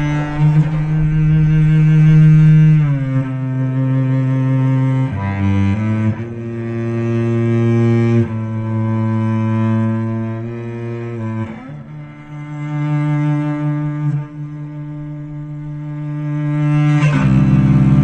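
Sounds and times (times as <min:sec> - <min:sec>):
solo cello music: 0:00.0 - 0:18.0.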